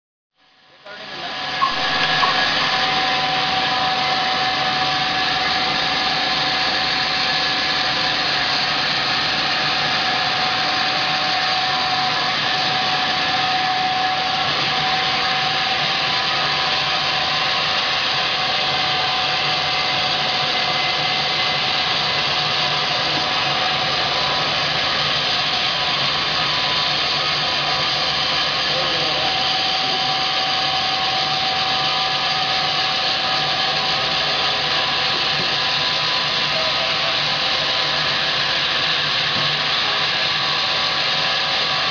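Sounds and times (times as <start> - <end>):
band saw cutting log: 1.1 - 41.9.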